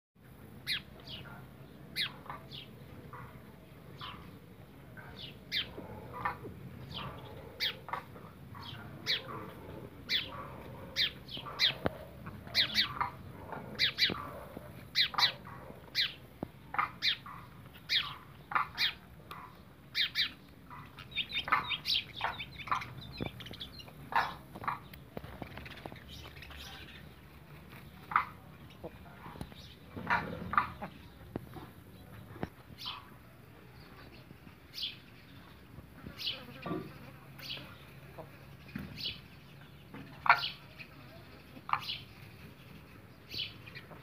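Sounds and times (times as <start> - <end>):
small birds chirping: 0.2 - 44.0.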